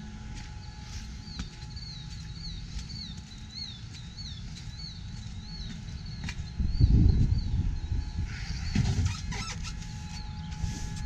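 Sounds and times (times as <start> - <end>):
bird chirping: 1.2 - 10.5.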